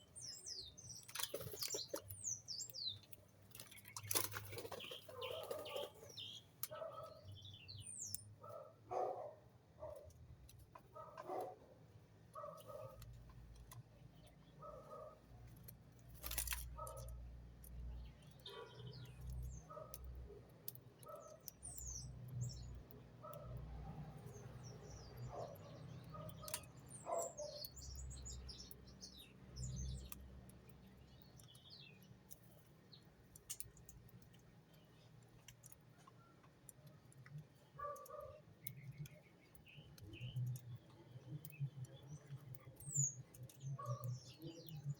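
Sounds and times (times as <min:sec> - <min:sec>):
birds chirping: 0:00.0 - 0:10.1, 0:16.2 - 0:20.0, 0:20.9 - 0:23.5, 0:24.1 - 0:44.9.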